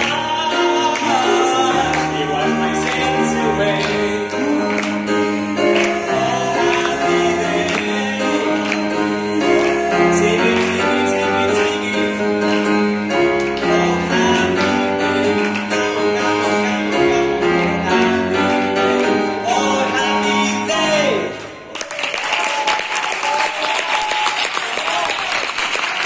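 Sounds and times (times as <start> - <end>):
person singing: 0.0 - 21.5
grand piano chords: 0.0 - 21.8.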